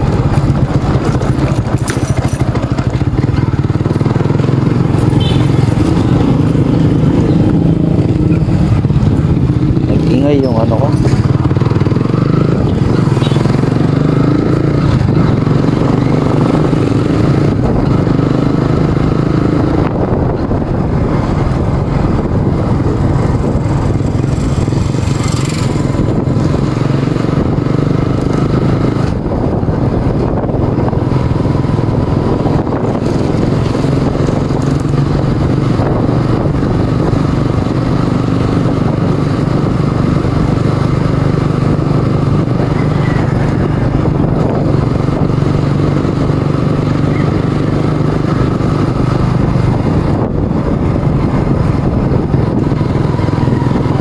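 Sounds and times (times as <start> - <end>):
motorcycle engine cruising: 0.0 - 54.0
road and wind noise: 0.0 - 54.0.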